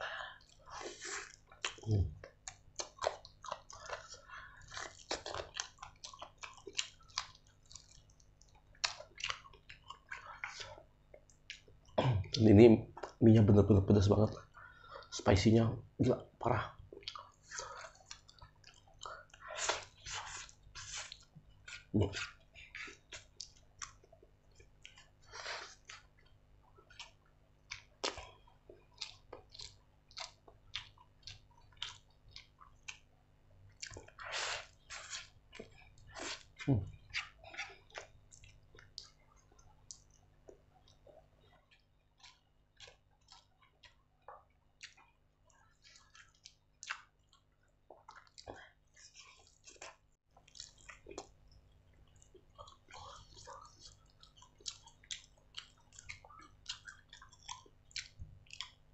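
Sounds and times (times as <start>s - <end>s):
wet chewing and lip smacks: 0.3s - 12.0s, 16.7s - 58.9s.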